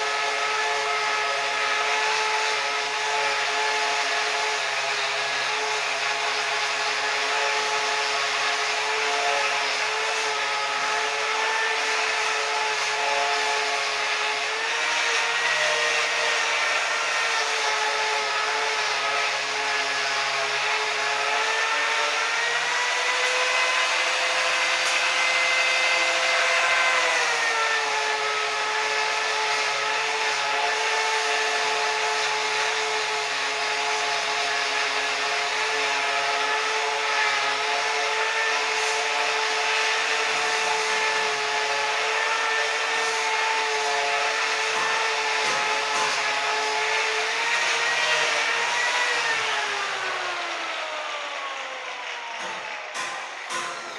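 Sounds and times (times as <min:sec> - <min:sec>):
angle grinder motor whine: 0:00.0 - 0:53.9.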